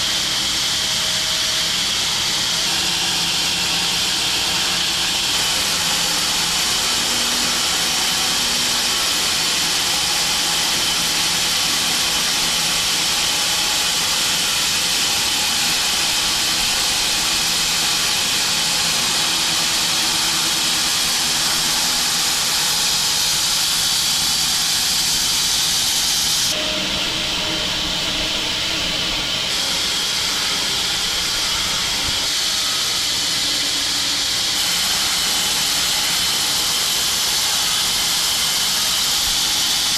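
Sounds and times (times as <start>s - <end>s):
sawmill machine running: 0.0s - 39.9s
bandsaw blade cutting log: 2.5s - 26.6s, 29.2s - 39.9s.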